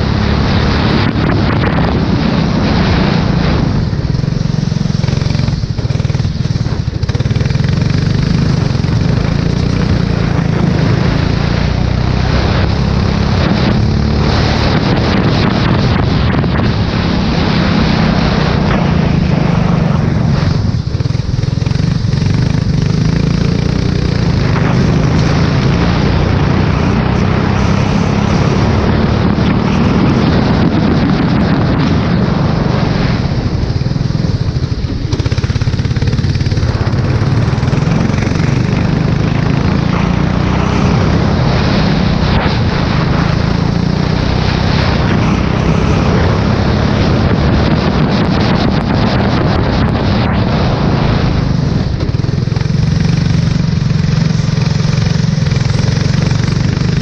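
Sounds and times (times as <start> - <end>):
race car engine at speed: 0.0 - 57.0
wind rushing over microphone: 0.0 - 57.0.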